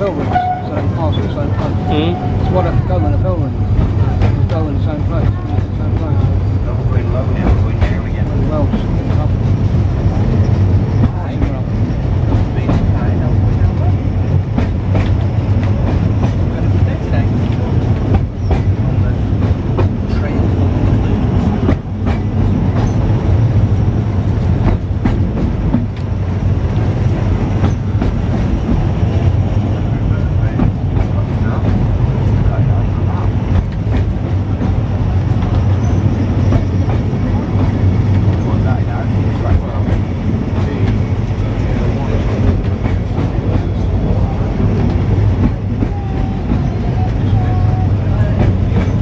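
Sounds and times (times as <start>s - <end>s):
tramcar rumbling on rails: 0.0s - 49.0s
wheels clicking on track: 7.0s - 49.0s.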